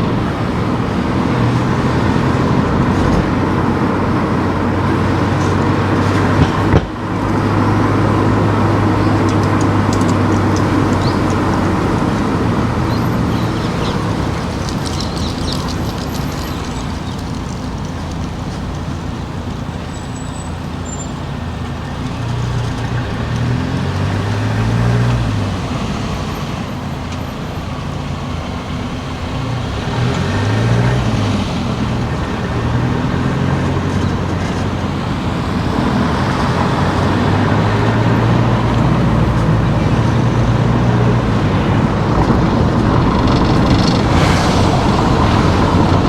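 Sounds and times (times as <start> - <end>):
tyre noise: 0.0 - 28.0, 28.7 - 46.0
car engine revving: 0.0 - 46.0.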